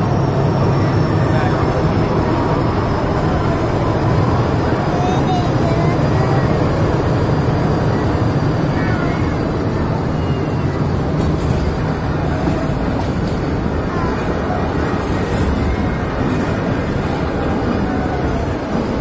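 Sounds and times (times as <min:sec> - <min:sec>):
train wheels rumbling in tunnel: 0:00.0 - 0:19.0.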